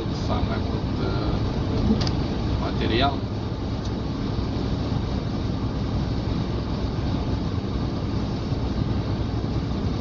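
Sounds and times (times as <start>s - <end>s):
truck cab road and engine rumble: 0.0s - 10.0s.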